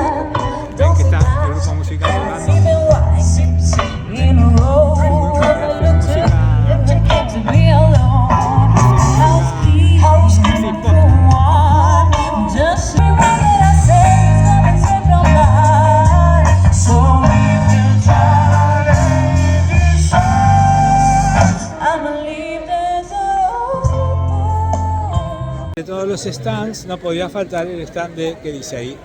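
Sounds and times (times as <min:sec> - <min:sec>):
person singing: 0:00.0 - 0:25.7
heavy bass notes: 0:00.0 - 0:25.8
live band playing: 0:00.0 - 0:27.0.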